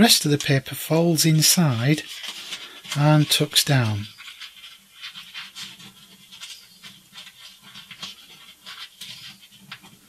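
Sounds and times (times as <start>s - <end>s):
paper rustling and crinkling: 1.3s - 10.0s.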